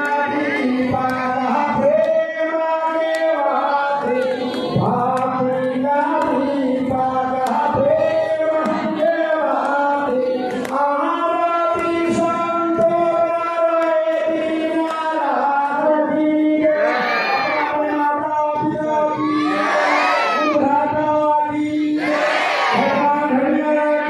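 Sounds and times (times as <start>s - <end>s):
person chanting in sung style: 0.0s - 24.0s.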